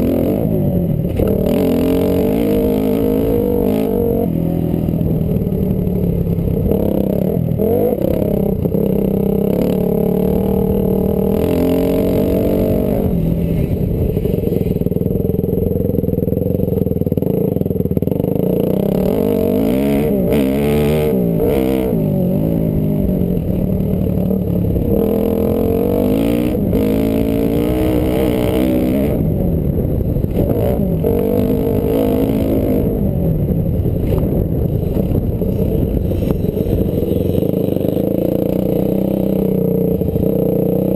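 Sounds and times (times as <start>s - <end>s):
dirt bike engine revving: 0.0s - 15.0s, 18.1s - 40.9s.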